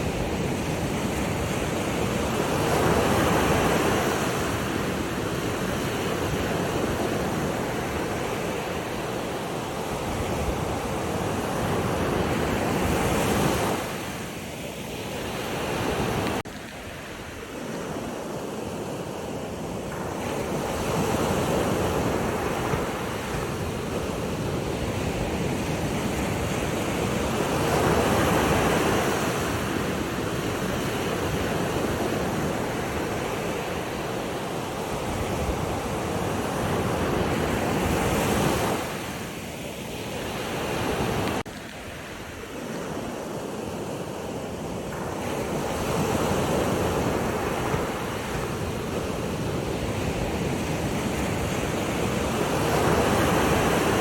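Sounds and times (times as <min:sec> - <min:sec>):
sea waves breaking: 0:00.0 - 0:54.0
wind on microphone: 0:00.0 - 0:54.0.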